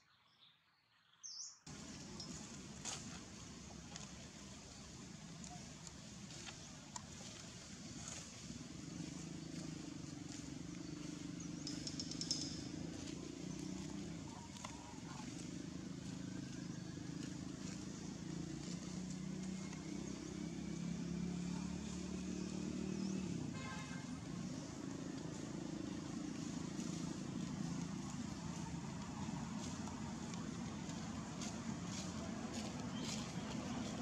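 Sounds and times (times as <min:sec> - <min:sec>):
vehicle engine humming: 0:01.7 - 0:34.0.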